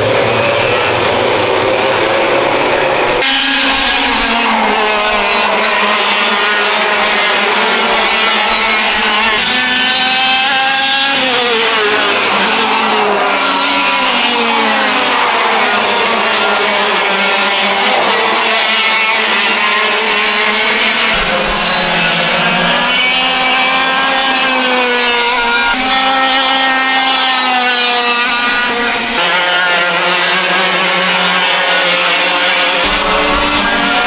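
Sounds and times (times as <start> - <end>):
kart engines racing: 0.0 - 34.0.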